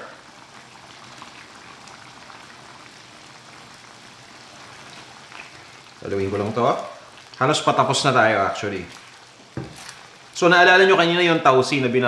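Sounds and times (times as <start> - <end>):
sauce simmering in a wok: 0.0 - 11.8.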